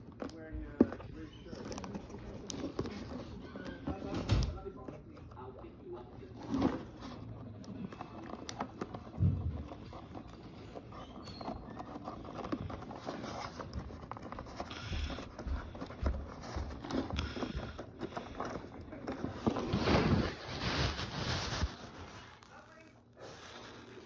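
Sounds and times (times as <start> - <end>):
twist tie and cardboard rustling: 0.0 - 24.0.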